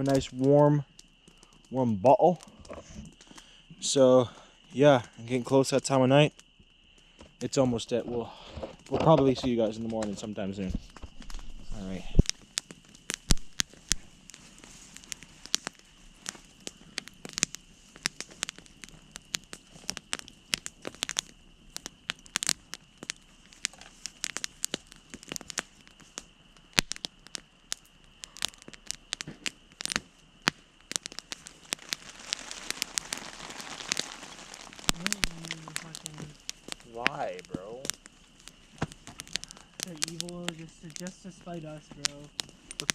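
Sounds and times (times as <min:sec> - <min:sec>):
campfire crackling and popping: 0:00.0 - 0:42.9
soft hiss: 0:00.0 - 0:42.9.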